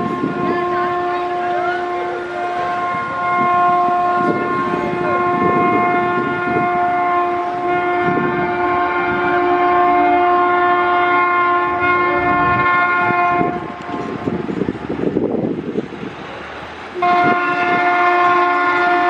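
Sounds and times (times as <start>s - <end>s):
locomotive horn blast: 0.0s - 14.4s, 17.0s - 19.0s
train rumbling on track: 0.0s - 19.0s.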